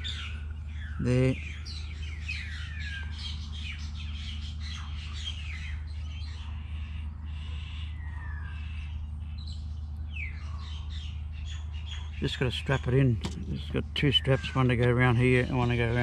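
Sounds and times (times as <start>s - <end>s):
birds chirping and whistling: 0.0s - 16.0s
steady low hum: 0.0s - 16.0s.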